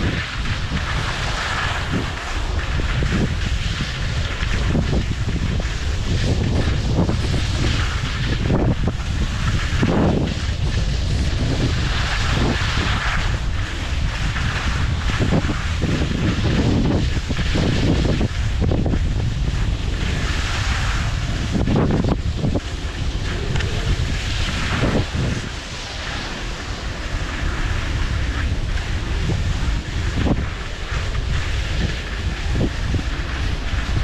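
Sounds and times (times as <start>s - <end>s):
skis scraping over snow: 0.0s - 34.0s
wind buffeting microphone: 0.0s - 34.0s.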